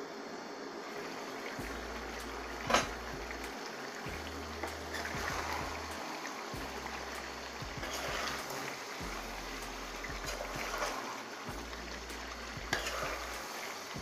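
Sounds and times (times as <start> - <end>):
curry sizzling in a pot: 0.8 - 14.0.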